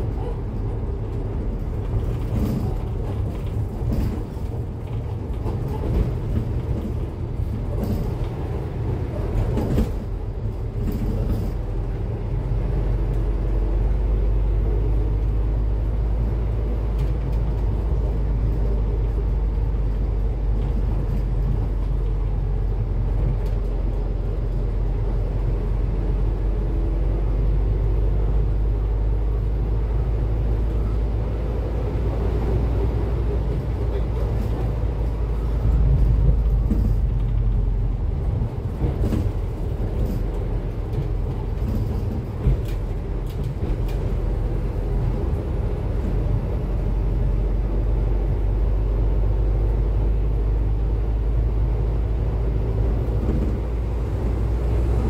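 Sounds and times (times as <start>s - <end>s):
bus diesel engine droning: 0.0s - 55.0s.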